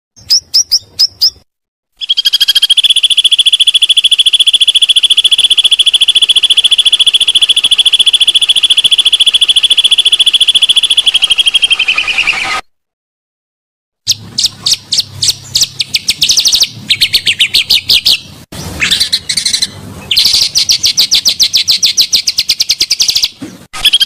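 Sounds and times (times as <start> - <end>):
bird song with rolling trill: 0.2 - 12.6, 14.1 - 24.0.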